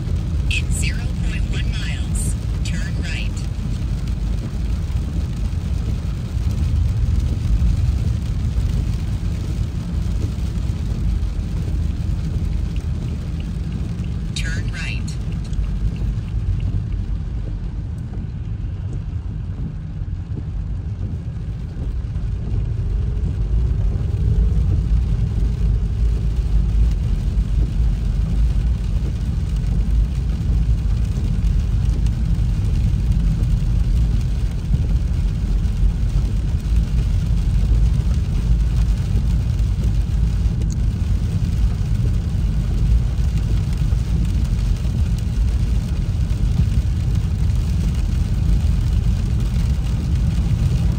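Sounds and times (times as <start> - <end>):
car driving on wet road: 0.0 - 50.9.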